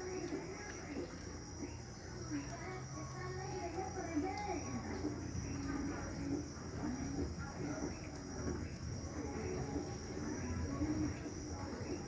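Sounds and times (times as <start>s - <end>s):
night insects trilling: 0.0s - 12.0s.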